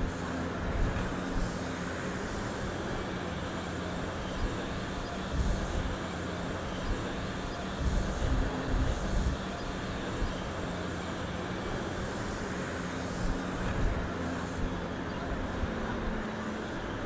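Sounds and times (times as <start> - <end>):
engine rumble with low hum: 0.0 - 17.0.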